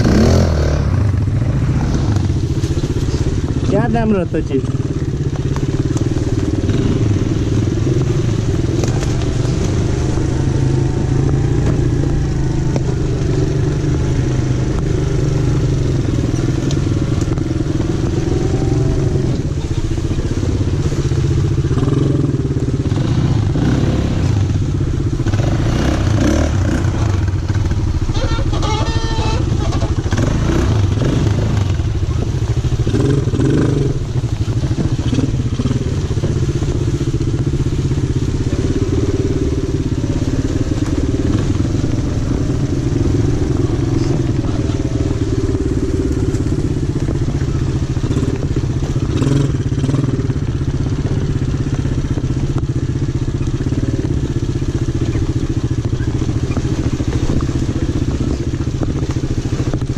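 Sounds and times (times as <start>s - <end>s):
knocks and clatter over rough ground: 0.0s - 59.9s
quad bike engines running: 0.0s - 59.9s.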